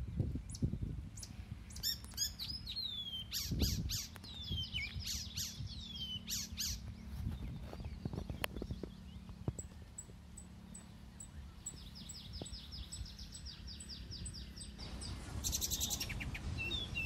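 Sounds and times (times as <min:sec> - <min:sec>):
birds chirping and calling: 0:00.0 - 0:17.0
steady low rumble: 0:00.0 - 0:17.0.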